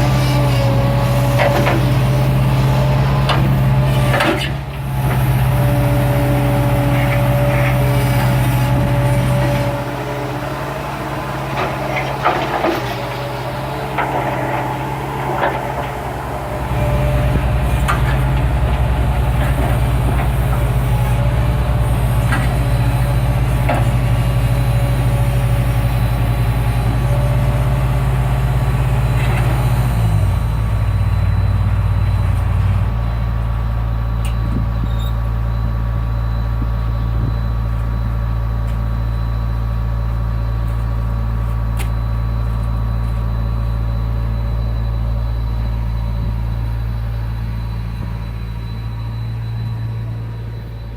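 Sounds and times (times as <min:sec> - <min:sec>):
machinery engine droning: 0:00.0 - 0:50.9.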